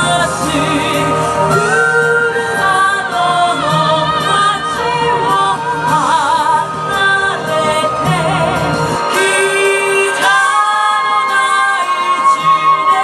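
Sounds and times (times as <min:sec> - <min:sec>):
dance music with sung vocals: 0:00.0 - 0:13.0.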